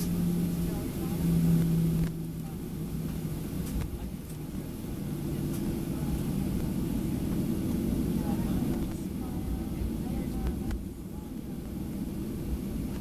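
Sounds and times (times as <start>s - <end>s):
airplane cabin hum: 0.0s - 13.0s.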